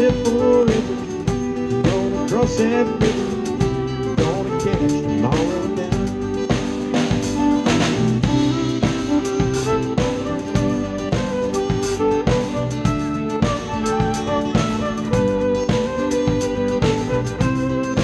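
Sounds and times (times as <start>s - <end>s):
live country band playing: 0.0s - 18.0s
sliding bending guitar lead: 0.0s - 18.0s.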